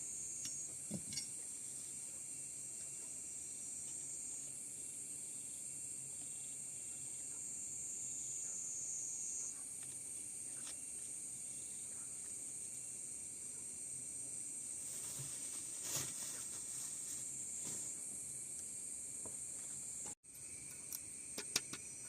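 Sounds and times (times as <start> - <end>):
insects droning: 0.0 - 22.0
lower insect drone: 0.0 - 22.0.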